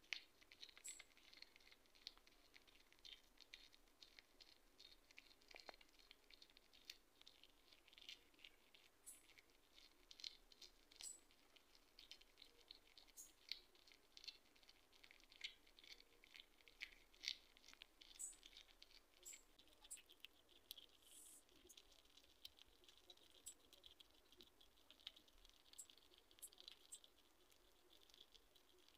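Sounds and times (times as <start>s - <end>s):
hedgehog chewing and crunching: 0.0s - 28.9s.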